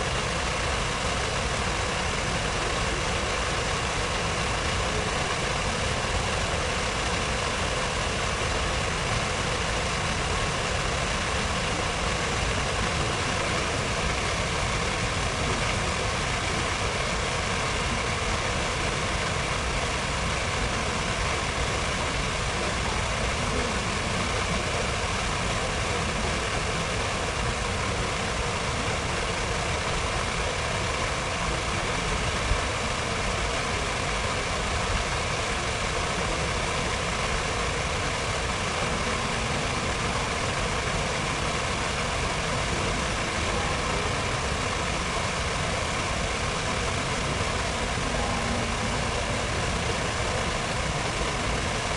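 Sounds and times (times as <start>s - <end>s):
city square ambience: 0.0s - 51.9s.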